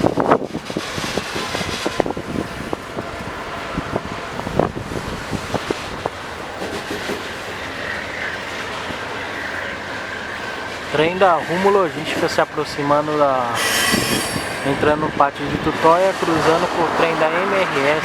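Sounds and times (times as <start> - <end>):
freight train wagons rolling: 0.0 - 18.0.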